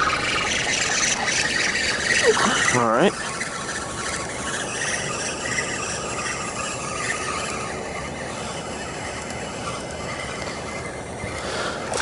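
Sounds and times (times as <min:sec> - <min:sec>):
fishing reel grinding: 0:00.0 - 0:12.0.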